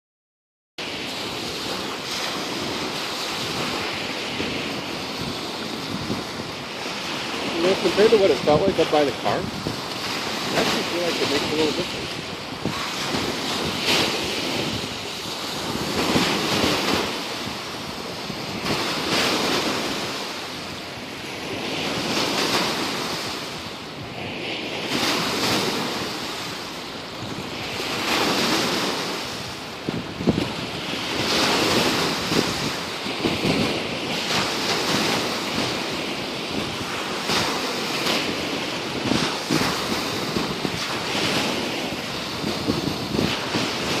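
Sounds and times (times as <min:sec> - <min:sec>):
waves washing in: 0:00.8 - 0:44.0
wind buffeting microphone: 0:00.8 - 0:44.0.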